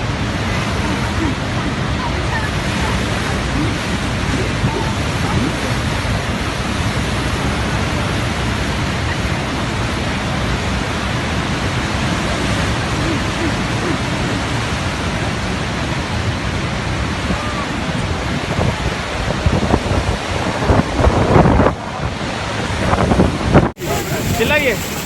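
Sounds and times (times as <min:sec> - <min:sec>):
waterfall rushing: 0:00.0 - 0:22.8, 0:23.8 - 0:25.0.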